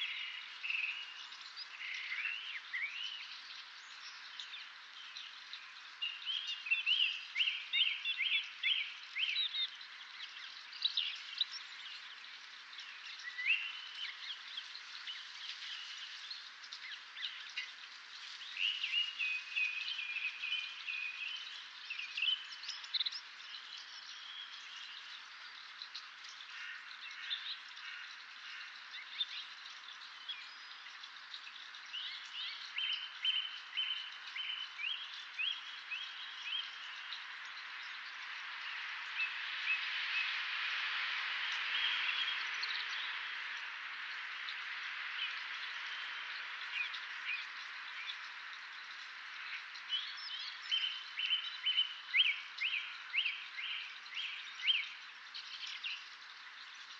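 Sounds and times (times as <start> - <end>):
songbirds singing: 0.0 - 56.9
steady background hiss: 0.0 - 56.9.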